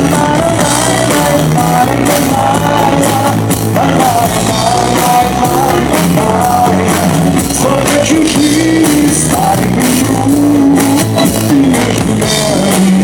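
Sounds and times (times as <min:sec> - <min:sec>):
live pop band playing: 0:00.0 - 0:13.0.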